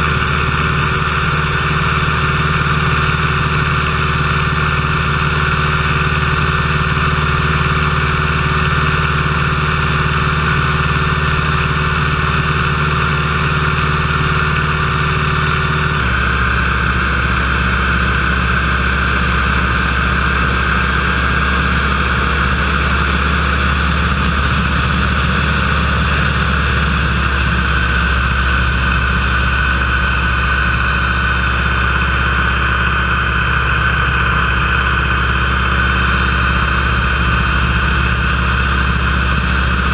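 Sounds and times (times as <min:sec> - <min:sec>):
propeller plane engine at high power: 0:00.0 - 0:39.9.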